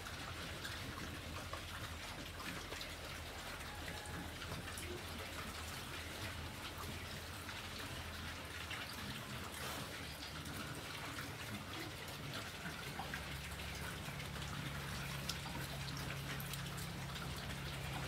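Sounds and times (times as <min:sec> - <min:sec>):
pigs chewing and munching: 0:00.0 - 0:18.0.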